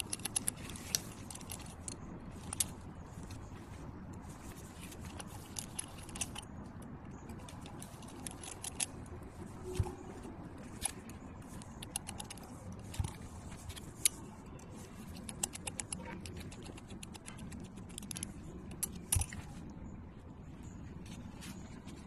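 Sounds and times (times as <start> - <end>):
small metal parts clinking: 0.0 - 3.5, 4.2 - 19.6.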